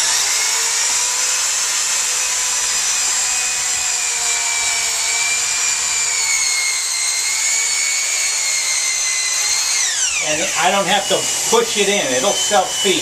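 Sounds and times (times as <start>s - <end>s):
power tool motor whine: 0.0s - 13.0s.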